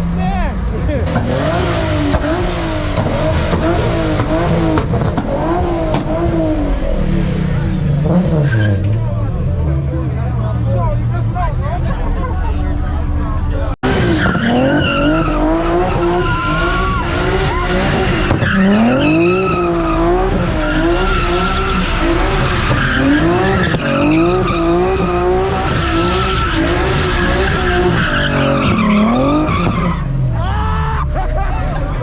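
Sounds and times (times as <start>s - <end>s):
car tyres squealing: 0.0s - 9.9s, 11.0s - 32.0s
car engine revving: 0.0s - 32.0s.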